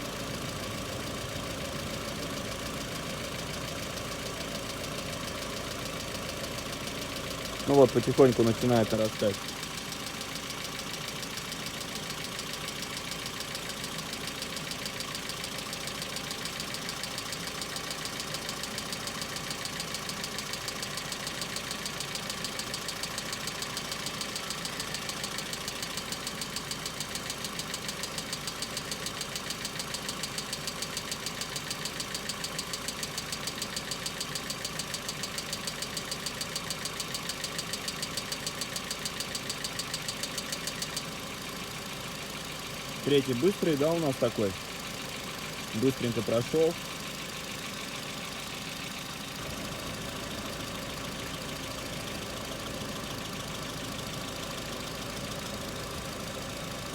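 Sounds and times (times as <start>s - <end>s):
car engine idling: 0.0s - 56.9s
rapid engine lifter tapping: 0.0s - 56.9s.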